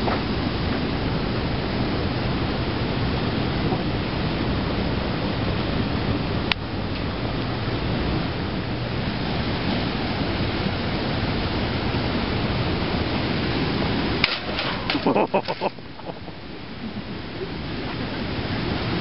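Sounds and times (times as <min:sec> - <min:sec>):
rushing outdoor noise: 0:00.0 - 0:19.0.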